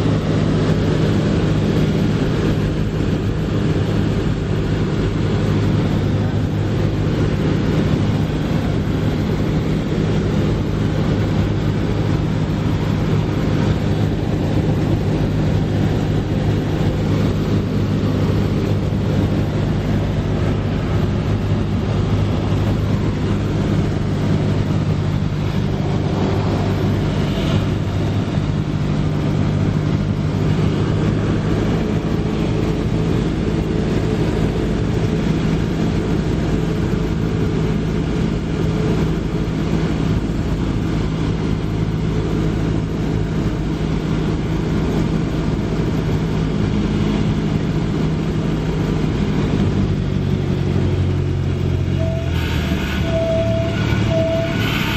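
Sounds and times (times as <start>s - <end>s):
airplane engine and propeller droning: 0.0s - 54.9s.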